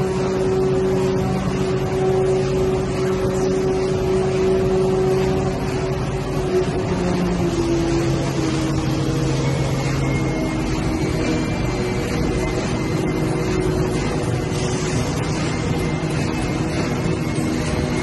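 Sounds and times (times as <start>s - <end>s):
production line machinery hum: 0.0s - 18.0s.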